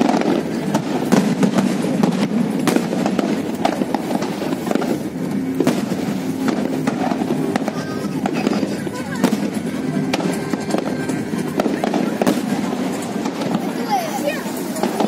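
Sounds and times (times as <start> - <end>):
fireworks cracking and popping: 0.0 - 15.0
steady background din: 0.0 - 15.0.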